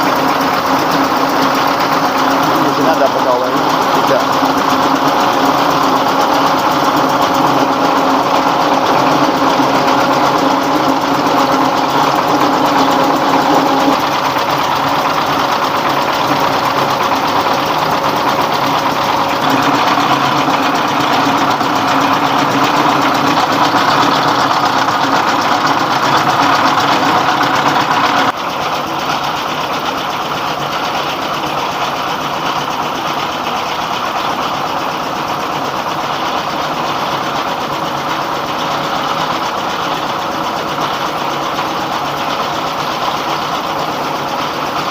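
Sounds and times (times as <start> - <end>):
rice hulling machine running: 0.0 - 44.9.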